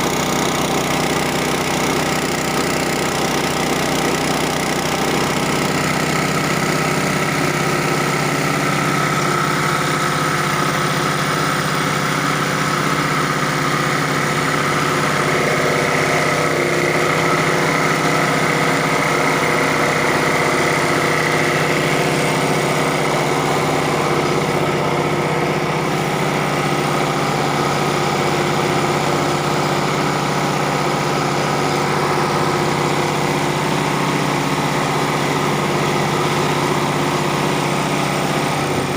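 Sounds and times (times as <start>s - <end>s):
grinder machine droning: 0.0s - 38.9s.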